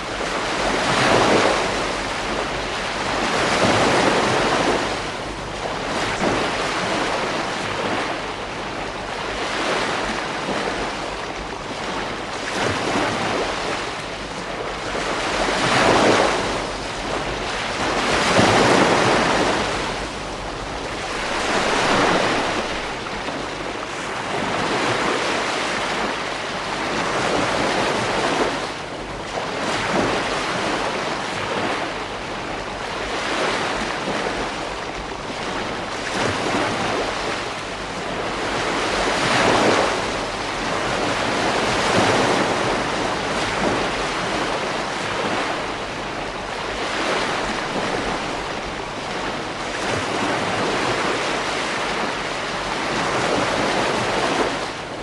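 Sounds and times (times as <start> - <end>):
ocean waves breaking: 0.0 - 55.0
wind on microphone: 0.0 - 55.0.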